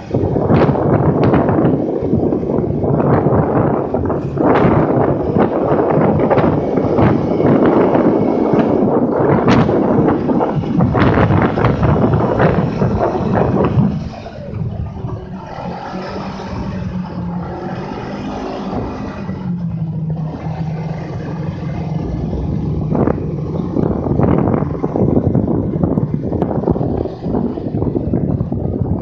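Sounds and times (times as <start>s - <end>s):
loud rough rushing noise: 0.0s - 29.0s
snowmobile engine running: 0.0s - 29.0s.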